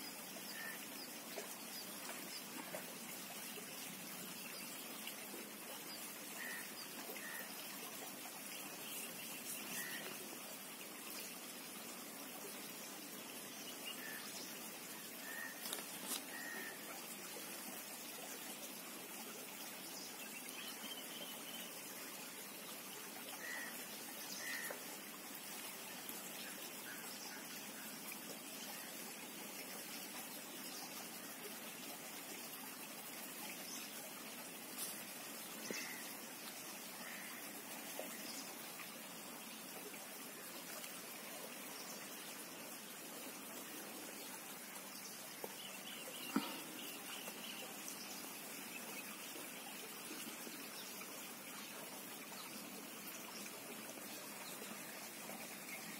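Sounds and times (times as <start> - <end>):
faint outdoor hiss: 0.0 - 55.9.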